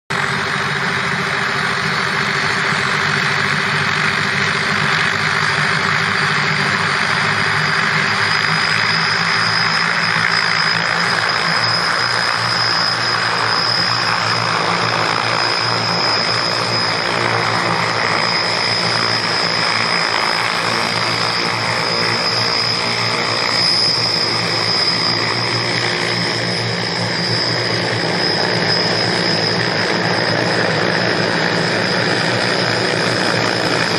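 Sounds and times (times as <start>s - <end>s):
drone propellers whirring: 0.1s - 33.9s
high whine: 0.1s - 33.9s.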